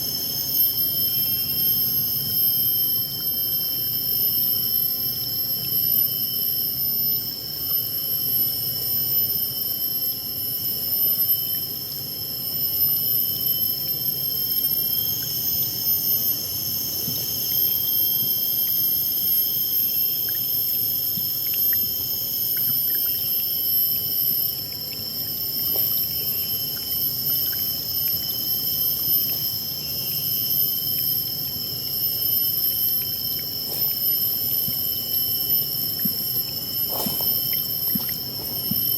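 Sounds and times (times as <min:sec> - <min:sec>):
shrill high-pitched whine: 0:00.0 - 0:08.4, 0:12.6 - 0:38.9.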